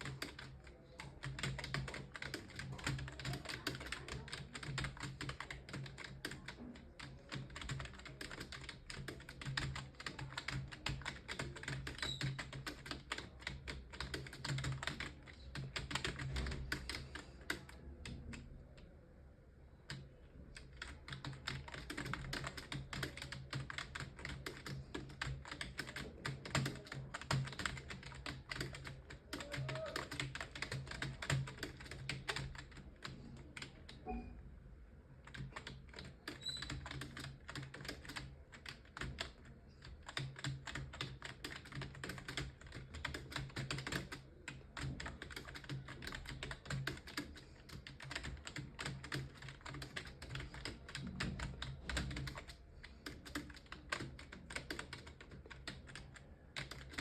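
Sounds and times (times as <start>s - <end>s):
fast keyboard typing: 0.0s - 18.5s, 19.8s - 34.3s, 35.2s - 57.0s.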